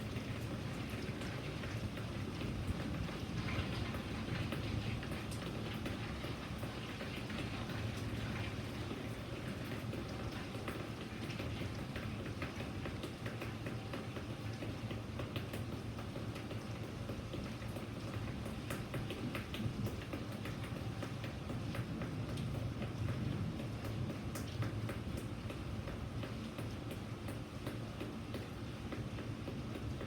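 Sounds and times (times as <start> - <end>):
raindrops ticking on a surface: 0.0 - 30.0
steady rain falling: 0.0 - 30.0.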